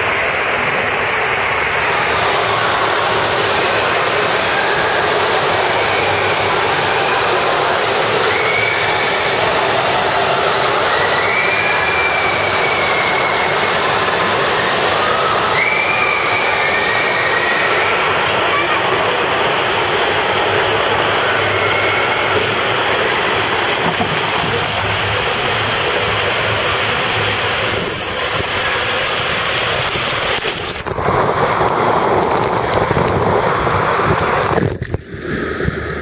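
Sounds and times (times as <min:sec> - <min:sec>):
water rushing through slide tube: 0:00.0 - 0:36.0.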